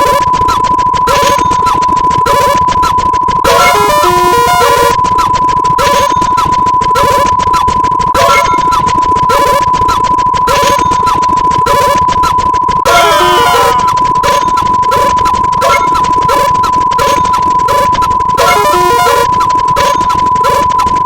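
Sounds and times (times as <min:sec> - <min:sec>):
falling electronic chirps: 0:00.0 - 0:21.0
rapid clicking: 0:00.0 - 0:21.0
short repeating blips: 0:00.0 - 0:21.0
steady beep tone: 0:00.0 - 0:21.0.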